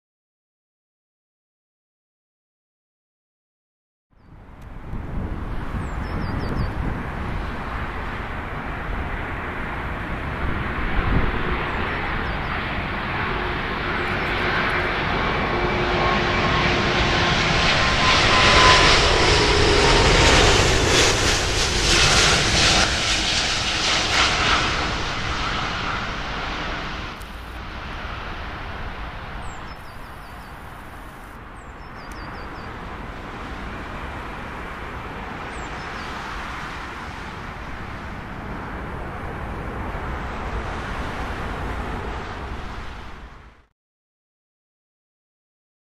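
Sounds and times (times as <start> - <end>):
jet airliner passing overhead: 4.3 - 43.7.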